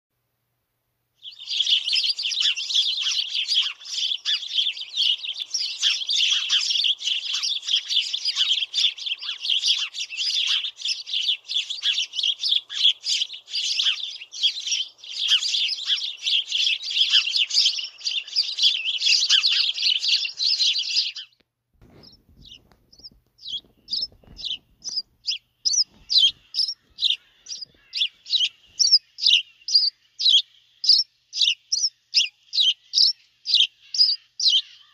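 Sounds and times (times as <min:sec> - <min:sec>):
single sparrow chirps: 0:01.2 - 0:34.9
sparrow flock chattering: 0:01.2 - 0:34.9.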